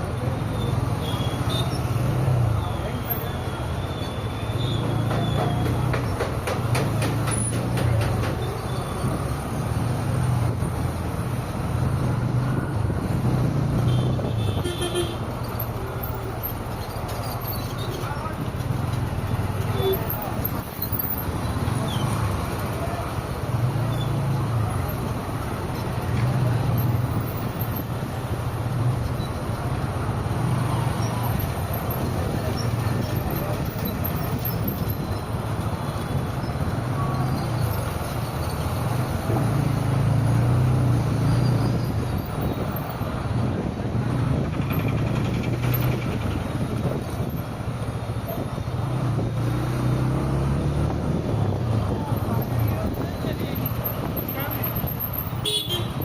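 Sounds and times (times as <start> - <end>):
road noise: 0.0 - 56.0
tyre and street noise: 0.0 - 56.0.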